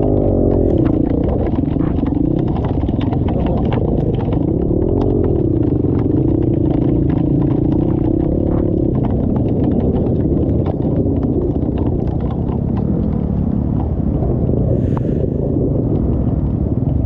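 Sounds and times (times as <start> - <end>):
motorcycle engine revving: 0.0 - 14.5.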